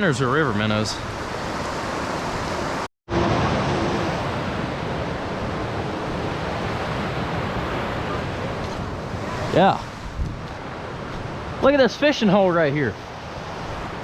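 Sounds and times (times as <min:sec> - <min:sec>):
creek water rushing: 0:00.6 - 0:14.0.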